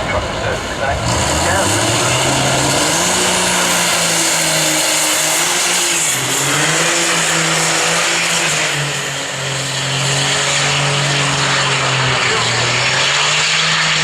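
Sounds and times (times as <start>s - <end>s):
truck engines running: 0.0s - 14.0s.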